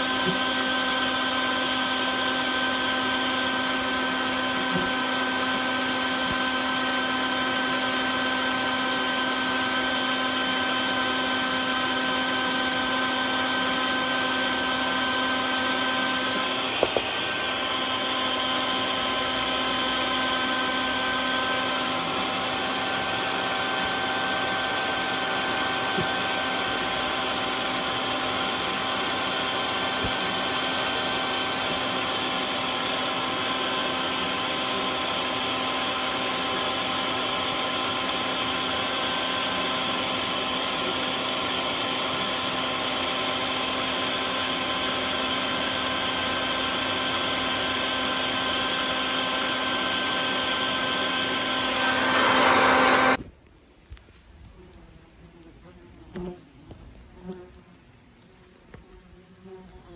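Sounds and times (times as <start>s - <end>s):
vacuum cleaner whining: 0.0s - 53.2s.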